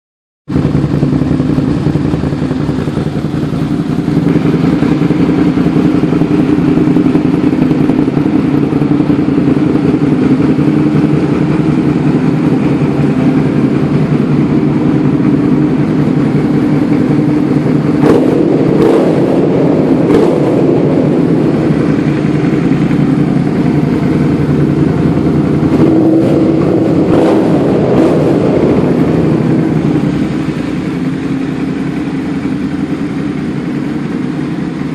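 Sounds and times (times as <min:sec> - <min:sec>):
motorcycle engine idling: 0:00.5 - 0:34.9.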